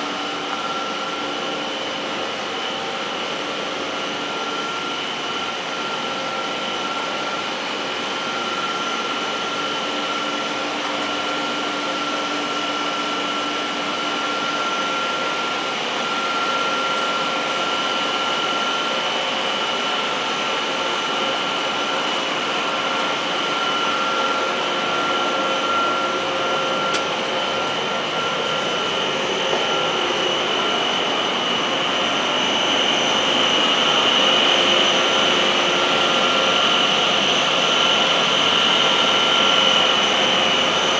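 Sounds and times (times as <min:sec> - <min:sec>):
machine drone with high whine: 0:00.0 - 0:40.9.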